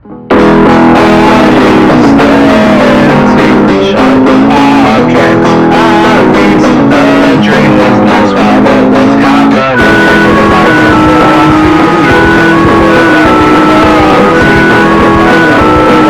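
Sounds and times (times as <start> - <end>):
loud electric guitar band music: 0.0 - 16.0.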